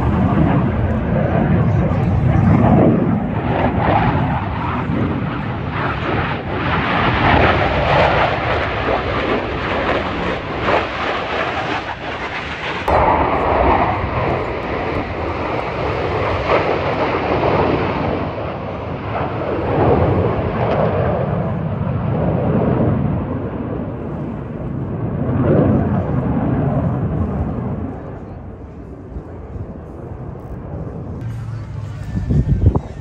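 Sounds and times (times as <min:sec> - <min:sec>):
jet flying past roaring: 0:00.0 - 0:33.0.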